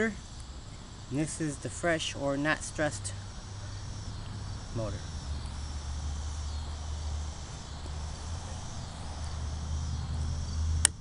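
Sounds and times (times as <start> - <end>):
insects trilling: 0.0 - 11.0
low steady rumble: 0.0 - 11.0.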